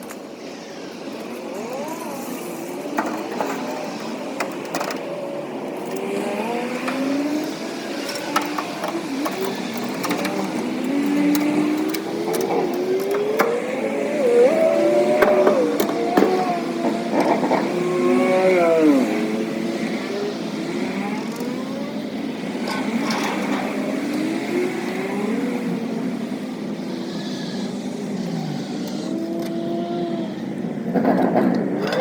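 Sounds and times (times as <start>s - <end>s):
road noise: 0.0s - 32.0s
vehicle engines speeding up: 0.0s - 32.0s.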